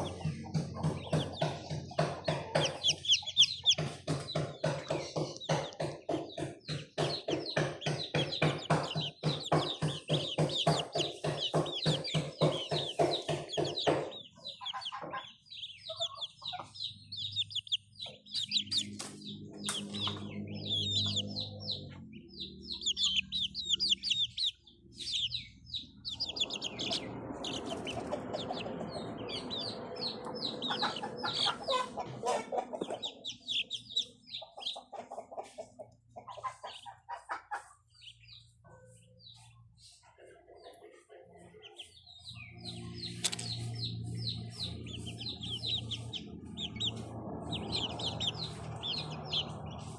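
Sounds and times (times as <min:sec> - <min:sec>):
chickens clucking: 0:00.0 - 0:49.9
small birds chirping: 0:00.0 - 0:49.9.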